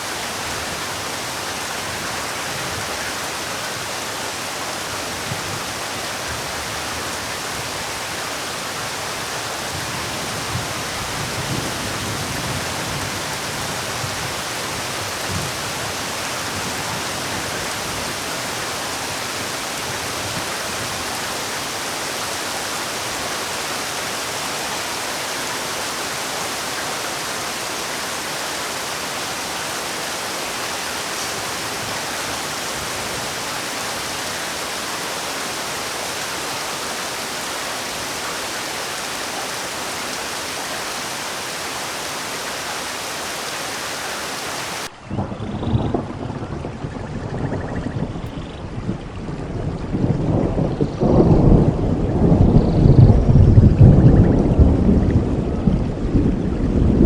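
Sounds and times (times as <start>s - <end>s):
steady rainfall: 0.0s - 45.3s, 48.0s - 57.0s
wind rumbling on microphone: 0.0s - 57.0s.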